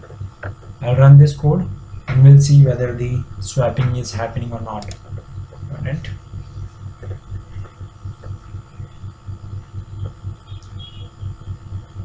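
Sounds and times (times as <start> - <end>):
pulsing low hum: 0.0 - 12.0.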